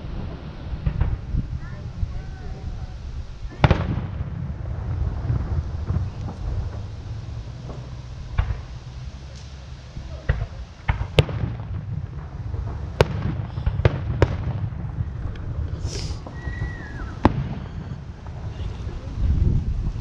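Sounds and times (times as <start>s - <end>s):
distant fireworks bangs: 0.0s - 20.0s.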